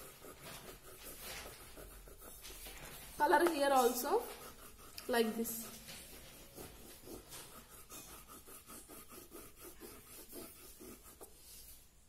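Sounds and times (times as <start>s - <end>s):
oil pastel scratching on paper: 0.0s - 12.0s.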